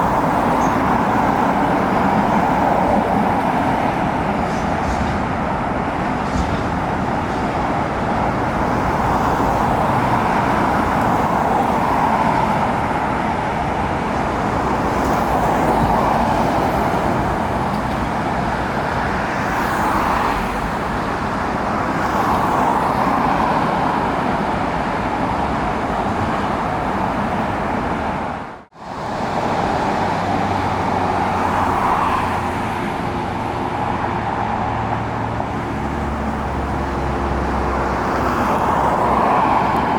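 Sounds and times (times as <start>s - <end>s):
engine noise: 0.0s - 39.9s.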